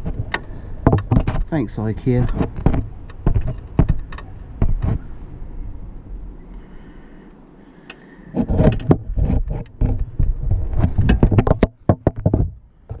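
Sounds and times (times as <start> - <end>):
quiet low rumble: 0.0 - 13.0.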